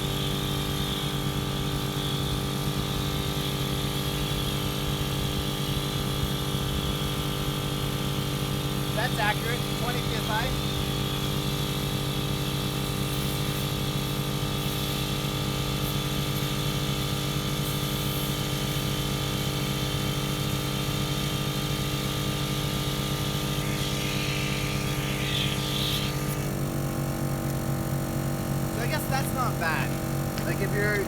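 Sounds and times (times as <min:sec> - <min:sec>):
air compressor droning: 0:00.0 - 0:31.0.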